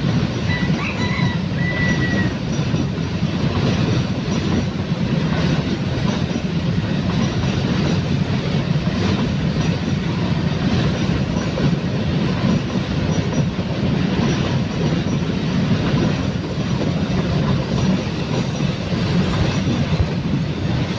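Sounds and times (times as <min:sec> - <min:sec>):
train wagons rumbling on rails: 0:00.0 - 0:20.9
wheels clickety-clack: 0:00.0 - 0:20.9.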